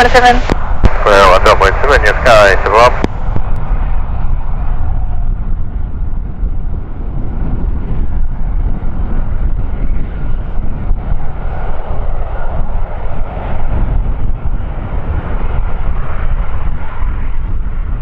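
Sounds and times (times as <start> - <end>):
gusting wind buffeting microphone: 0.0 - 18.0.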